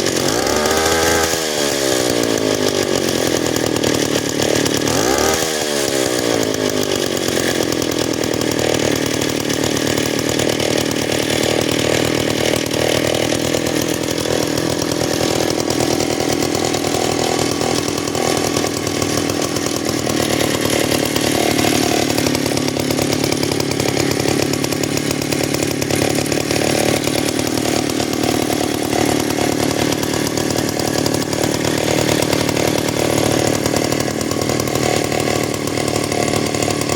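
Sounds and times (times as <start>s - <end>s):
small two-stroke engine running: 0.0s - 36.9s.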